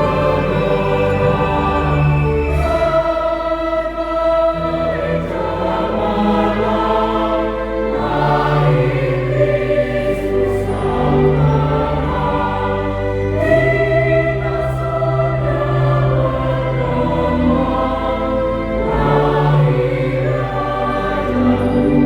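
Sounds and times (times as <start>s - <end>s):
choir singing carols: 0.0s - 22.0s.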